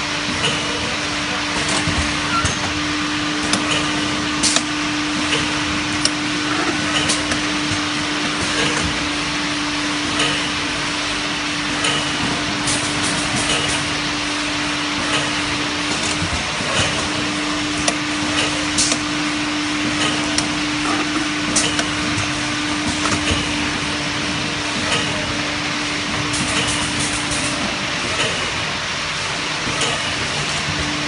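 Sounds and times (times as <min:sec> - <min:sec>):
bottle filling machine running: 0:00.0 - 0:31.0
continuous machine hum: 0:00.0 - 0:31.0.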